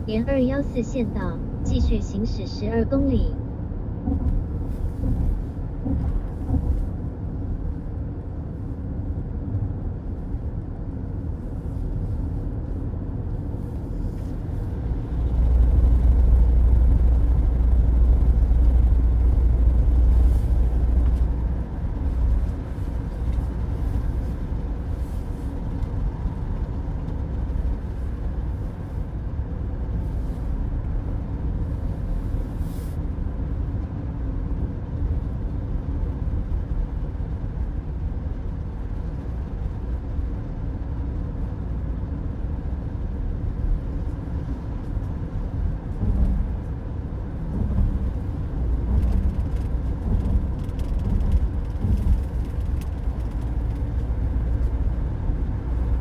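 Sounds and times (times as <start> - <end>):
car road noise from inside cabin: 0.0 - 56.0.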